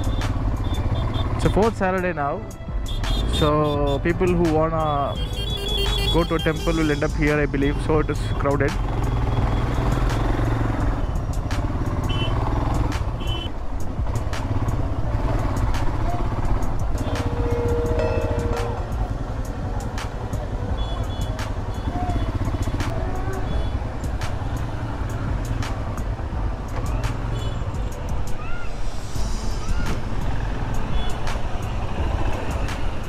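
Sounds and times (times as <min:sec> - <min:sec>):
motorcycle engine low rumble: 0:00.0 - 0:28.4.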